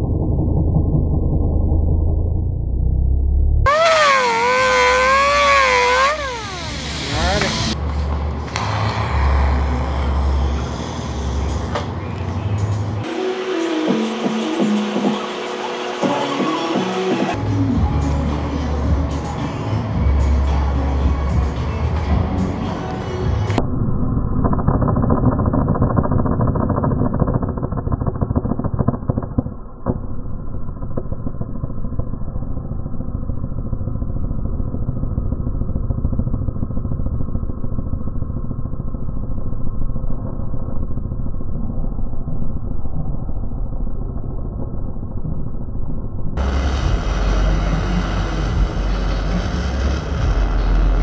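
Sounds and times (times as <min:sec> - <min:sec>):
slowed welding arc rumbling: 0:00.0 - 0:13.0, 0:13.6 - 0:51.0.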